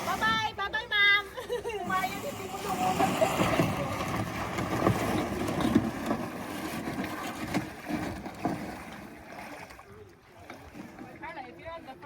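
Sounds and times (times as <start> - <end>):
water moving around canoe hull: 0.0 - 12.0.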